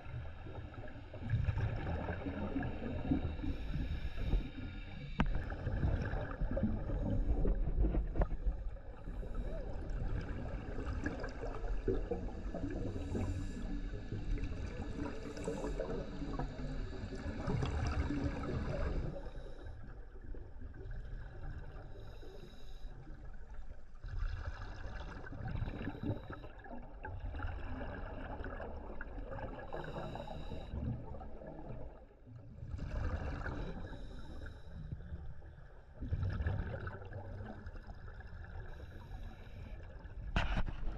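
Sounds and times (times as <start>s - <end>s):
underwater exhaled bubbles gurgling: 0.0s - 40.9s.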